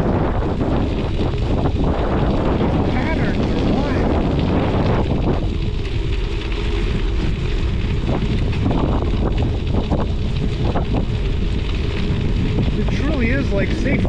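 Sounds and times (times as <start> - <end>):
bicycle tyre rolling on ice: 0.0 - 14.0
wind buffeting microphone: 0.0 - 14.0.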